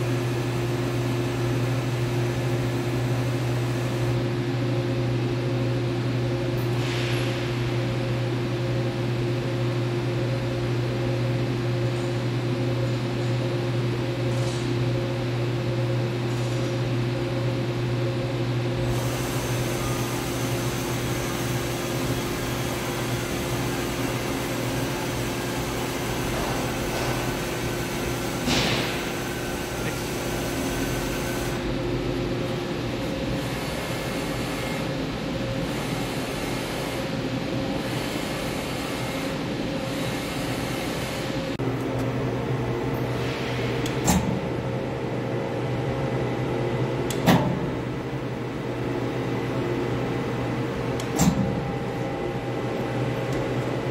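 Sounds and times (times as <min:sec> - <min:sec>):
machine hum with steady tones: 0:00.0 - 0:53.9.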